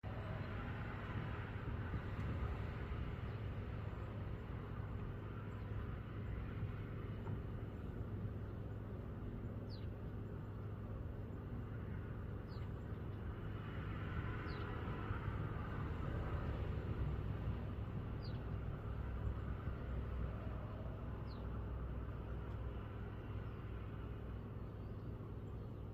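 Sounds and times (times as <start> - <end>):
low background rumble: 0.0 - 25.9.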